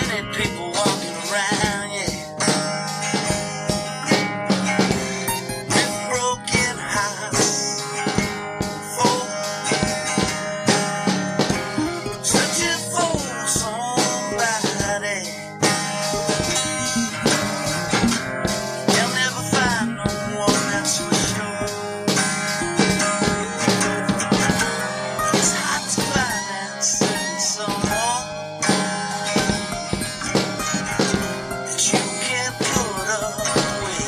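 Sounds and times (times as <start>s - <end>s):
band music with guitar: 0.0s - 34.0s.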